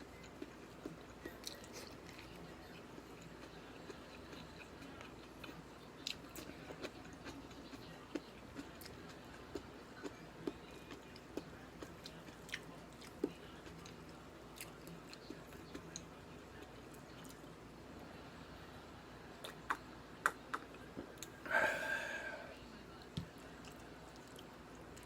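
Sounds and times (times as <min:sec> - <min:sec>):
person chewing food: 0:00.1 - 0:17.5, 0:19.4 - 0:22.5, 0:23.6 - 0:25.0.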